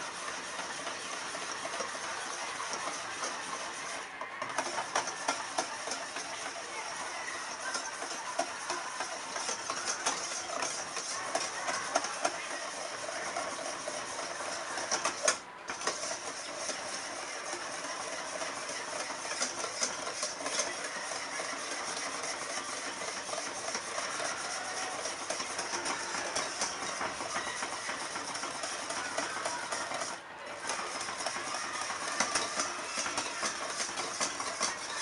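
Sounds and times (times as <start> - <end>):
electric hand mixer whisking: 0.0 - 35.0.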